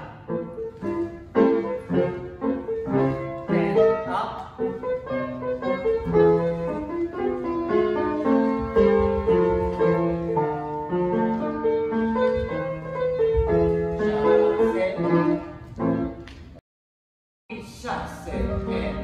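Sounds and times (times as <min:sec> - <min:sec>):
piano music: 0:00.0 - 0:16.6, 0:18.0 - 0:19.0.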